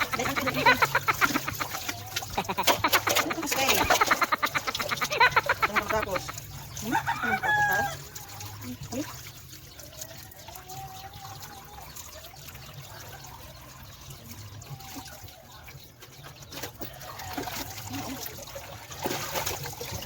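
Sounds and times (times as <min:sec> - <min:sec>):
water trickling and pouring: 0:00.0 - 0:20.0.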